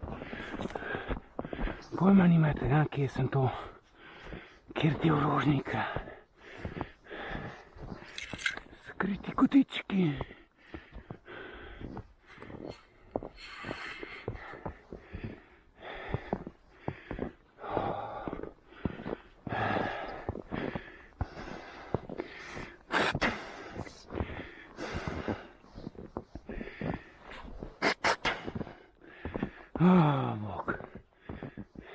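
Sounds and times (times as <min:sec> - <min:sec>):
runner breathing hard: 0:00.0 - 0:02.0, 0:03.6 - 0:04.8, 0:05.8 - 0:08.5, 0:10.2 - 0:29.8, 0:30.6 - 0:31.9.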